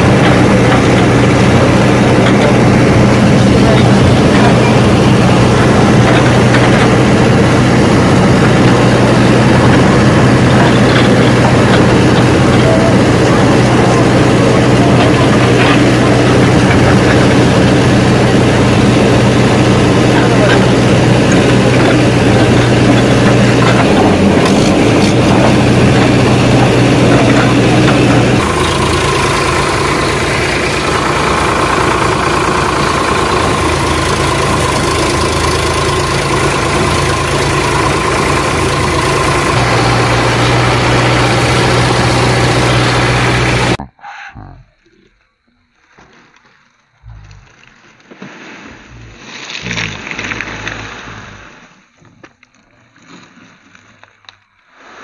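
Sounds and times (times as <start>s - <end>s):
vehicle engine running: 0.0s - 44.0s, 44.7s - 51.8s.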